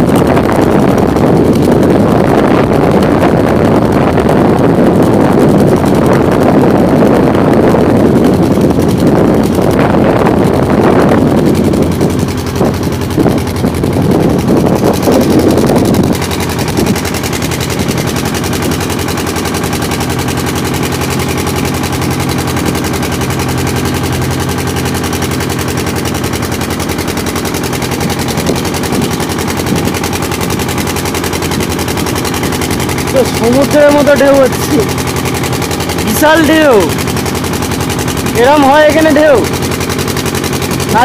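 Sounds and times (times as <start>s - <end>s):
boat diesel engine knocking: 0.0s - 41.0s
wind buffeting microphone: 0.0s - 41.0s.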